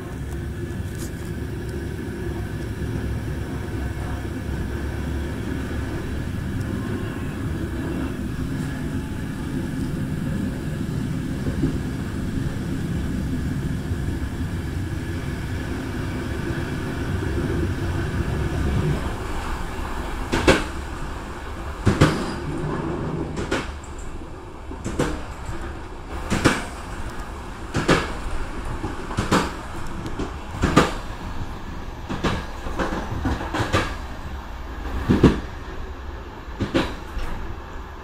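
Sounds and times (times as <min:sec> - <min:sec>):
wheels clacking over rail joints: 0:00.0 - 0:34.2, 0:36.6 - 0:37.6
train rumbling: 0:00.0 - 0:38.0.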